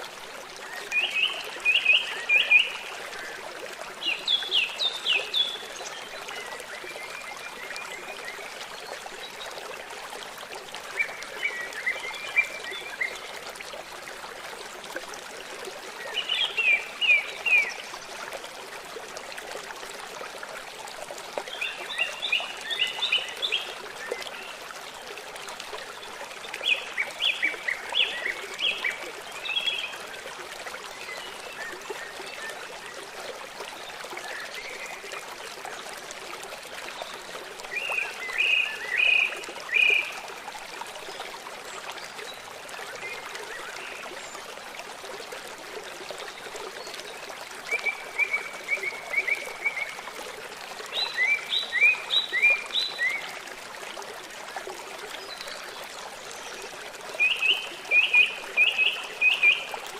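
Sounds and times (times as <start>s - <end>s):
river running: 0.0s - 59.9s.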